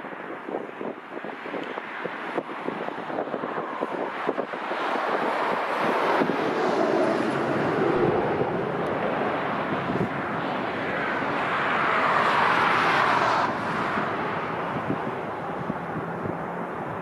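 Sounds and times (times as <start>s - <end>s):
wind buffeting microphone: 0.0s - 17.0s
jet engines passing: 0.8s - 17.0s.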